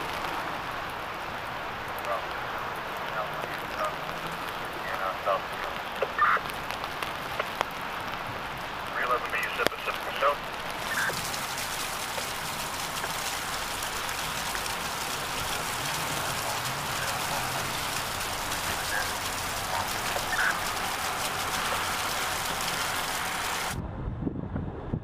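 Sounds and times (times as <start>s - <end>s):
rainwater gushing from downspout: 0.0s - 23.8s.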